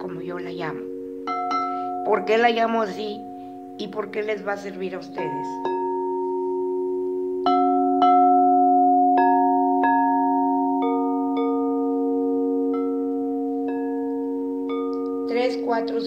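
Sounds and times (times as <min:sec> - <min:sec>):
crystal singing bowls ringing: 0:00.0 - 0:16.0.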